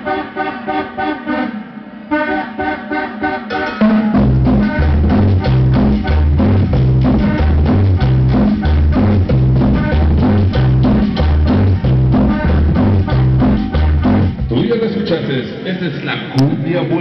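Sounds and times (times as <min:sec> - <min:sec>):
accordion cumbia music: 0:00.0 - 0:15.2.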